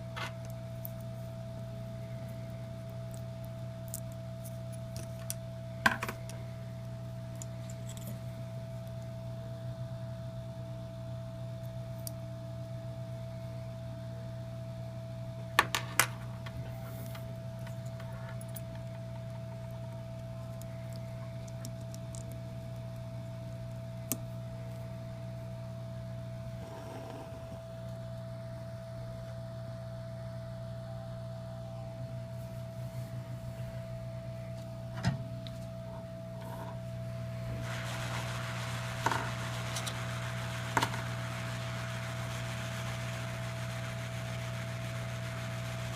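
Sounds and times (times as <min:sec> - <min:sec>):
low electrical hum: 0:00.0 - 0:45.9.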